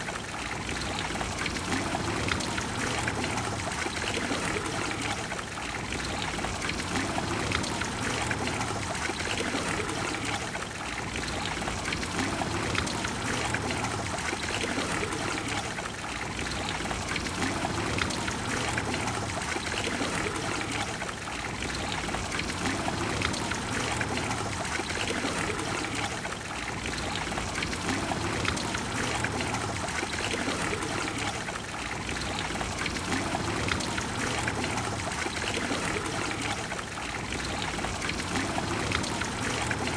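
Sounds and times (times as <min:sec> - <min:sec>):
fountain water pouring: 0:00.0 - 0:39.9.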